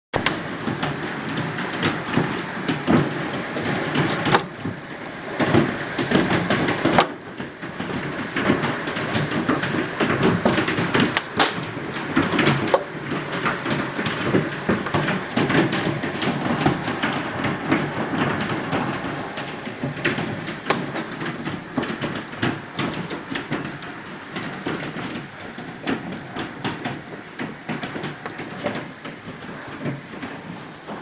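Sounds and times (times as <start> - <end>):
hailstones striking hard surfaces: 0.2 - 31.0
heavy rain on tarmac: 0.2 - 31.0.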